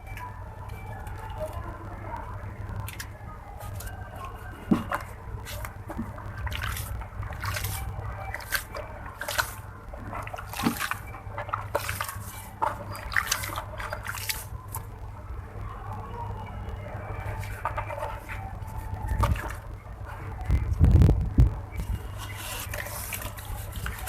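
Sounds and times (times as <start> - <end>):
steady low hum: 0.0 - 24.0
wet blocks crumbling crackles: 0.0 - 24.0
water drips and sloshes: 0.1 - 24.0.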